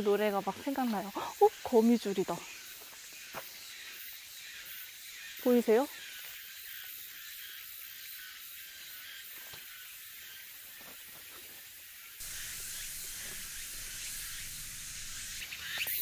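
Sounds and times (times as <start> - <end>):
forest ambience hiss: 0.0 - 16.0.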